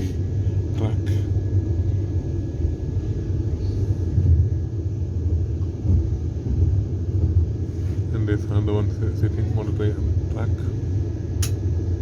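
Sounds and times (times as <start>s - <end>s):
train rumbling inside coach: 0.0s - 12.0s.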